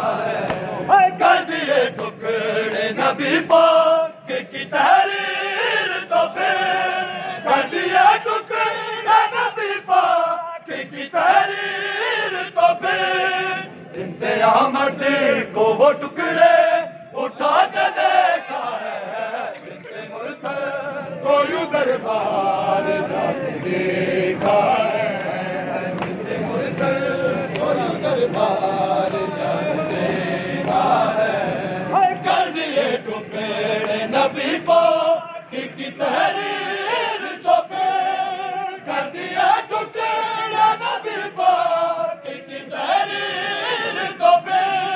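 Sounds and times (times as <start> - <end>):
men chanting in unison: 0.0 - 44.9.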